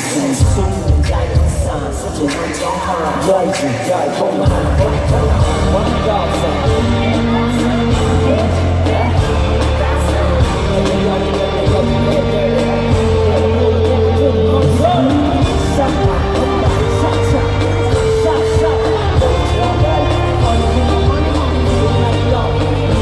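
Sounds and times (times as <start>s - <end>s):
live hip-hop music: 0.0s - 23.0s
person rapping and singing: 0.0s - 23.0s.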